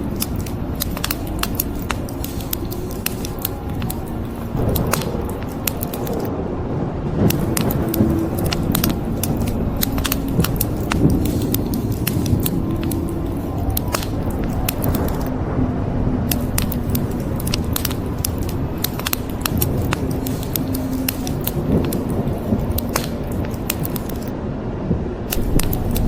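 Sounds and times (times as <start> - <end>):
wood fire snaps and pops: 0.0 - 6.3, 7.2 - 15.3, 16.3 - 24.3, 25.3 - 26.0
low fire rumble: 0.0 - 26.0.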